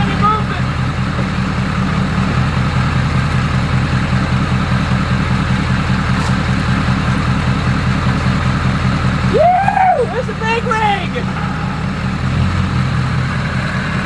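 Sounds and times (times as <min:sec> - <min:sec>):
diesel engine clattering: 0:00.0 - 0:14.0.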